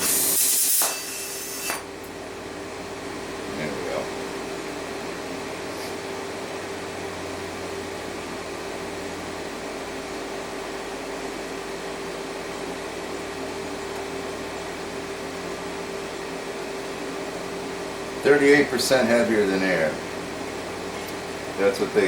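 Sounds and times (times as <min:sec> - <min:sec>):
shop equipment hum and hiss: 0:00.0 - 0:22.0.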